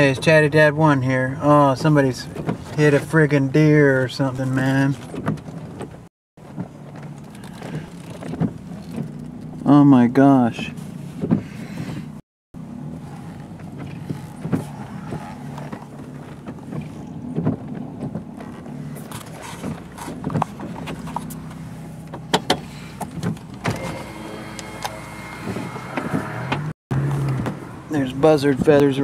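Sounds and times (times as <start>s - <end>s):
car engine humming: 0.0s - 29.0s.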